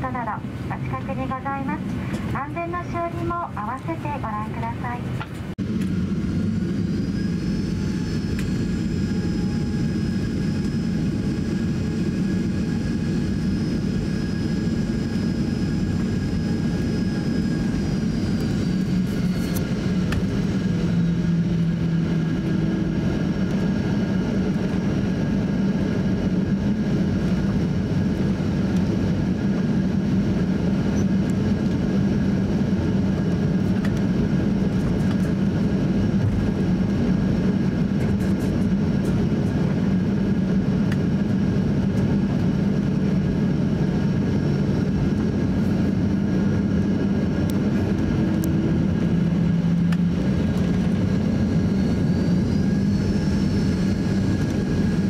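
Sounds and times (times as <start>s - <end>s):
jet engine cabin drone: 0.0s - 55.0s.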